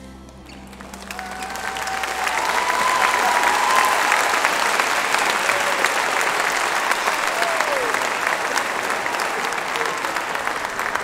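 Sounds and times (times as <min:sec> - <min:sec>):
audience clapping: 0:00.5 - 0:11.0.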